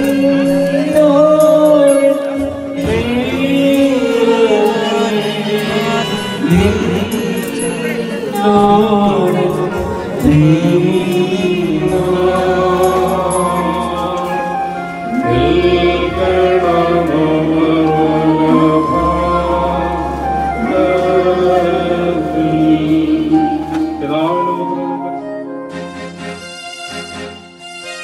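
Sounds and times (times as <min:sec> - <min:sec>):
person singing devotional song: 0:00.0 - 0:25.1
sustained accompaniment: 0:00.0 - 0:28.0.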